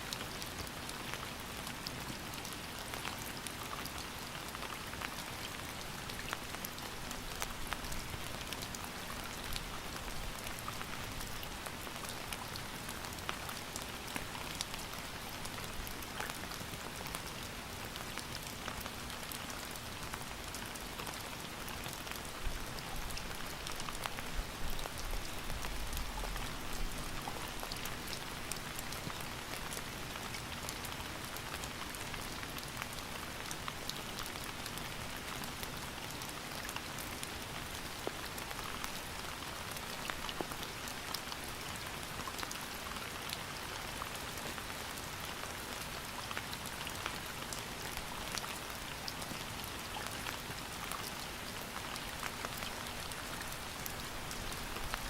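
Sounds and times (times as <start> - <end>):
steady rain with drops ticking: 0.0 - 55.0.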